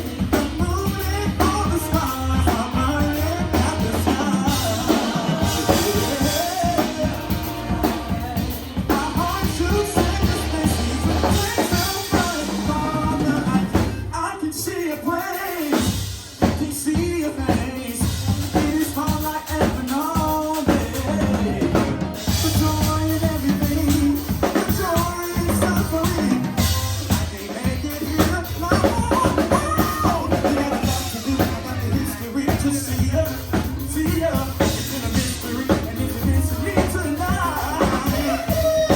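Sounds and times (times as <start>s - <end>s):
drum kit beat: 0.0s - 38.9s
live band playing: 0.0s - 38.9s
person singing: 0.0s - 38.9s.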